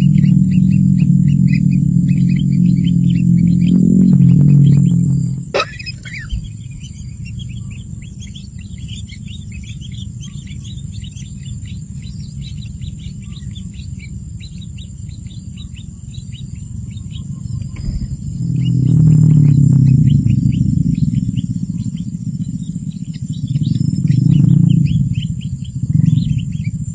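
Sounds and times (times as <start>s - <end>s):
small birds chirping: 0.0s - 26.9s
steady low rumble: 0.0s - 26.9s.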